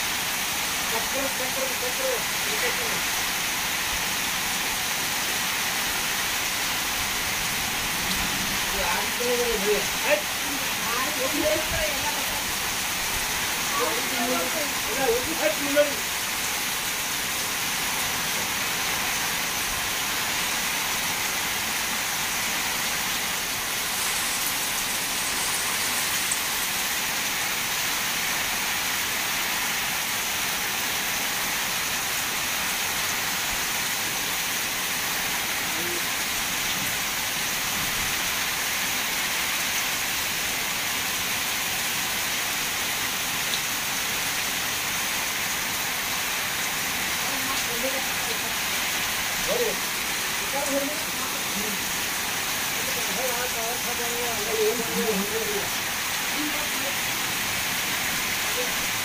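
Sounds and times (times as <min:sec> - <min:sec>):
torrential rain on a corrugated roof: 0:00.0 - 0:59.0.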